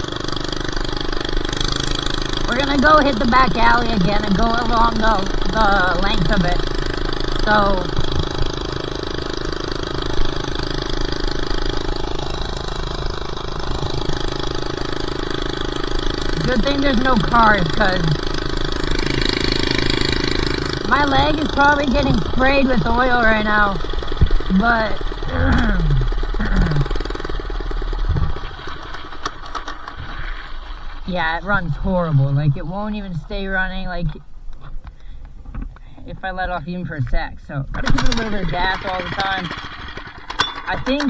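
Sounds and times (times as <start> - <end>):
small engine running without muffler: 0.0 - 41.0.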